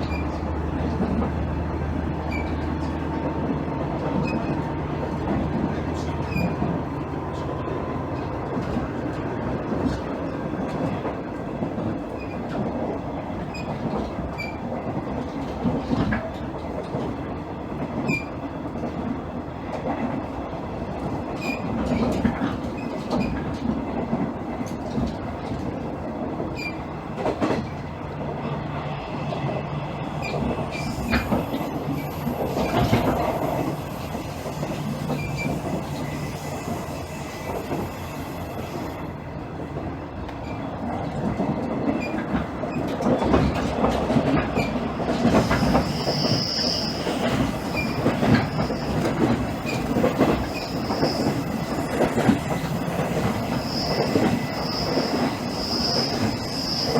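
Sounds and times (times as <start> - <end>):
diesel engine and wheels rumbling: 0.0 - 56.9.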